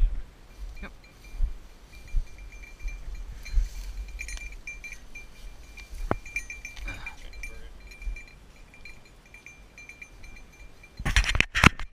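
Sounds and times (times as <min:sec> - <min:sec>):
small bell jingling: 0:00.5 - 0:11.4.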